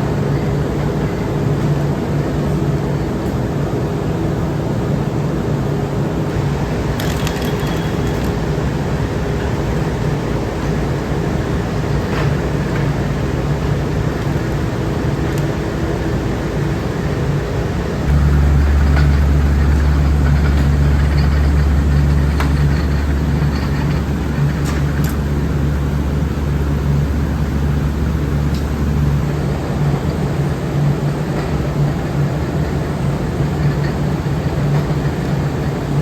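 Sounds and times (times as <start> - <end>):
factory machinery running: 0.0 - 36.0
deep loud hum: 4.2 - 36.0.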